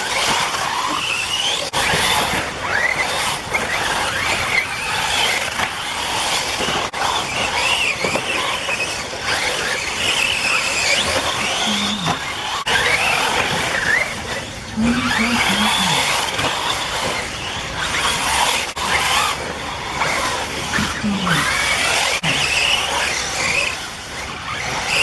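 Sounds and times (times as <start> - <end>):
rc buggy motors whining: 0.0 - 25.0.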